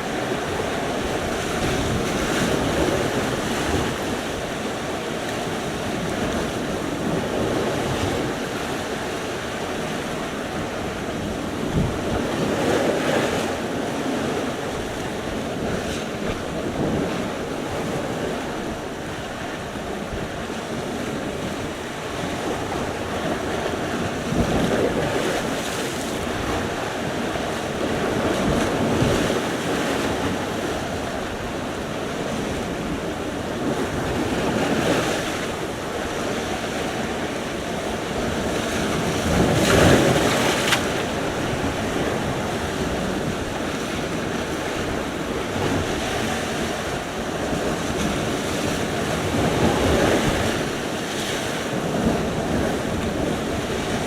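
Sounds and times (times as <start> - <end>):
waves breaking: 0.0 - 54.0
wind buffeting microphone: 0.0 - 54.0.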